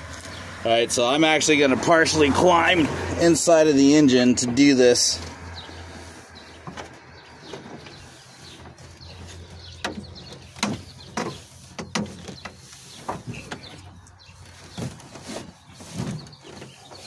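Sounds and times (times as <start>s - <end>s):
knocks and creaks on truck metal: 2.0s - 17.0s.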